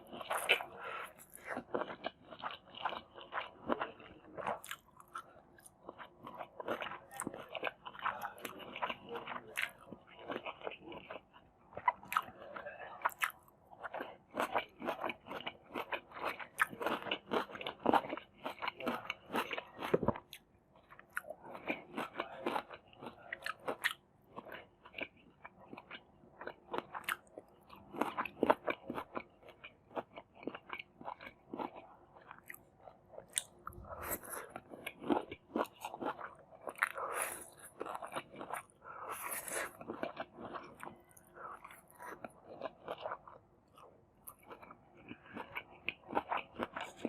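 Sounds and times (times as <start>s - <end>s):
person chewing crunchy food: 0.0s - 47.0s.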